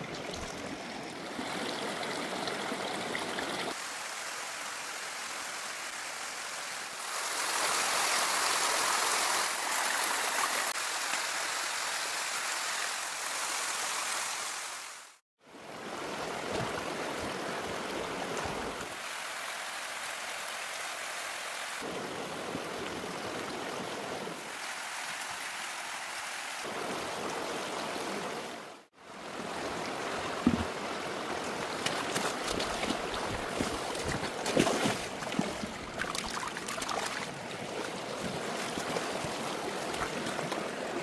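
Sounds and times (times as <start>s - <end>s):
water rushing: 0.0s - 41.0s.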